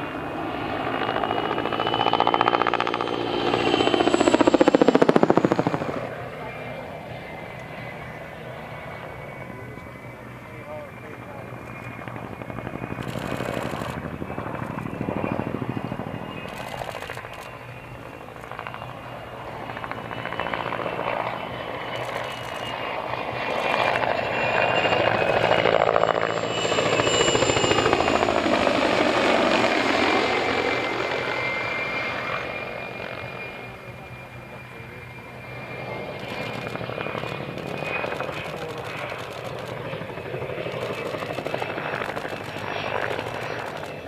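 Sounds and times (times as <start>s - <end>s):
helicopter flying past: 0.0s - 44.0s.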